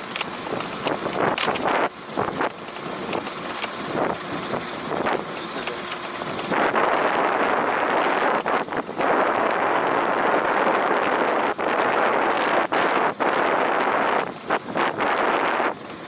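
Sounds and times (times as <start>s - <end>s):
high-pitched whine: 0.0s - 16.0s
wind rushing over microphone: 0.0s - 16.0s.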